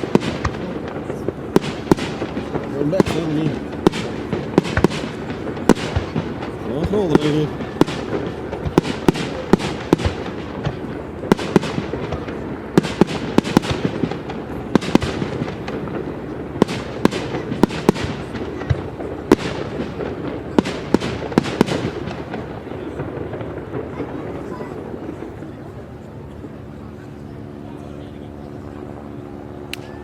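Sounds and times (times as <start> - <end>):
fireworks bursting: 0.0 - 27.1
steady background noise: 0.0 - 30.0.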